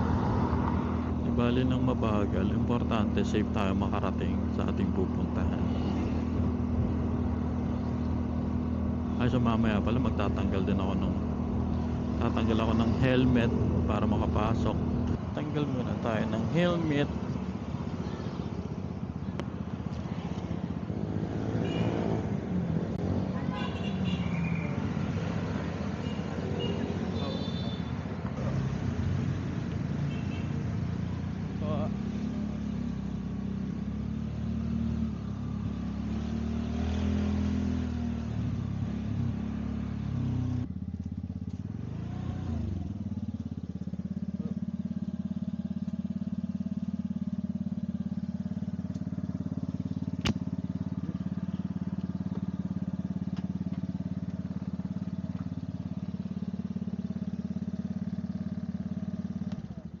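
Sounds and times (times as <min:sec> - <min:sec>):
motorcycle engine running: 0:00.0 - 1:00.0
road and traffic noise: 0:00.0 - 1:00.0.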